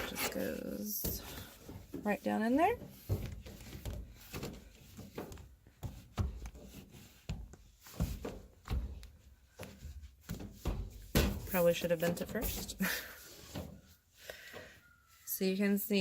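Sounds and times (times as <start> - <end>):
soft knocks and scuffing in dryer: 0.9 - 14.0.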